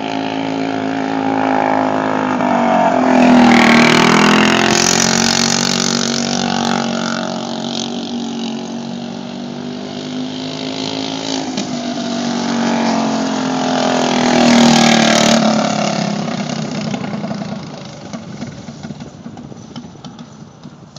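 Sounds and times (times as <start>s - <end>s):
kart engine running hard: 0.0s - 20.9s.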